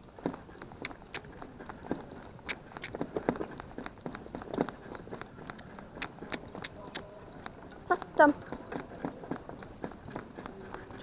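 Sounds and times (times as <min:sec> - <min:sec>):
harness and carriage rattling: 0:00.0 - 0:11.0
hooves knocking: 0:00.0 - 0:11.0.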